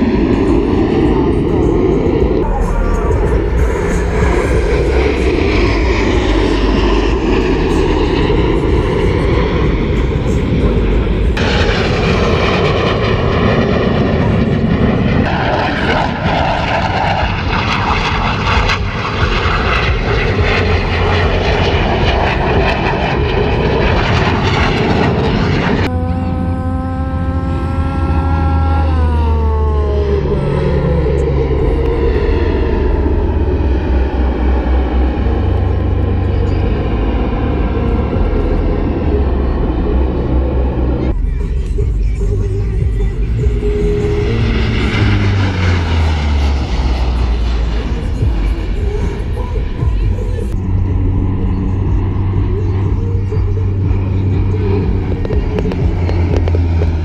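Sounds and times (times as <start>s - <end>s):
jet aircraft flying past: 0.0s - 57.0s
turboprop aircraft drone: 0.0s - 57.0s.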